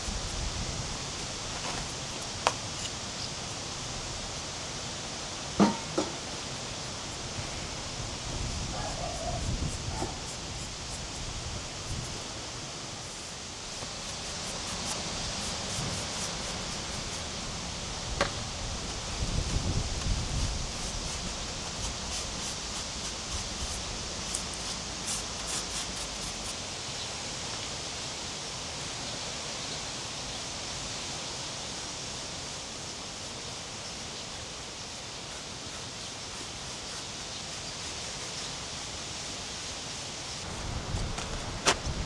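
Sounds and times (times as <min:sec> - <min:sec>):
steady rushing outdoor noise: 0:00.0 - 0:27.0, 0:31.4 - 0:42.0.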